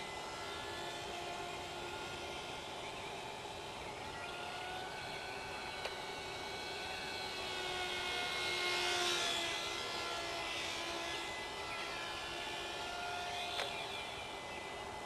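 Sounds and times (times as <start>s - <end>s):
rc plane motor whining: 0.0s - 15.0s.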